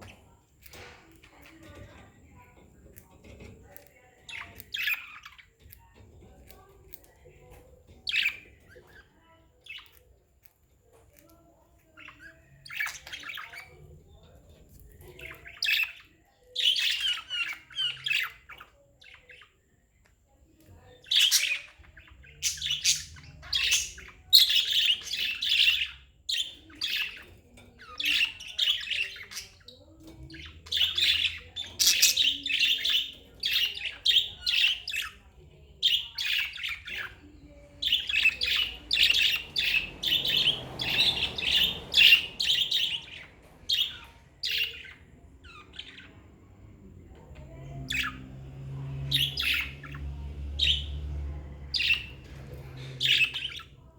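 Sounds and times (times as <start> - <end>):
budgerigars chirping: 3.2 - 6.7, 7.9 - 10.0, 11.9 - 19.6, 20.8 - 53.9.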